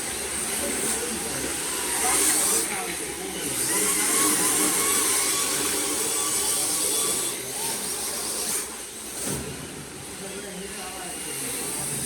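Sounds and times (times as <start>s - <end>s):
small electric motors whining: 0.0s - 9.4s, 10.6s - 12.0s.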